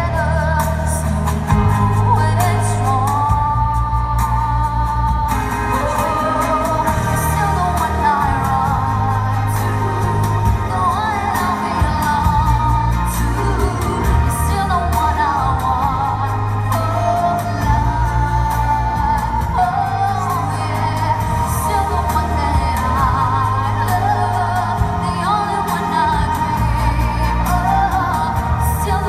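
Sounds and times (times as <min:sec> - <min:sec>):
backing track with bass and beat: 0:00.0 - 0:29.0
woman singing into microphone: 0:00.0 - 0:29.0.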